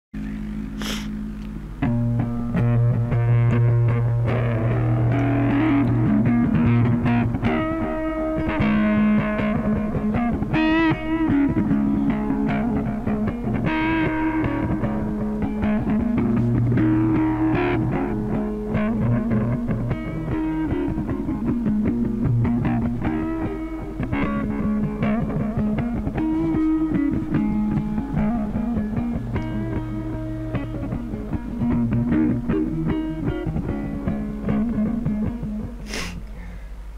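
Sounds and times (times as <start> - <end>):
steady low hum: 0.2 - 36.9
electric guitar solo: 1.8 - 35.9.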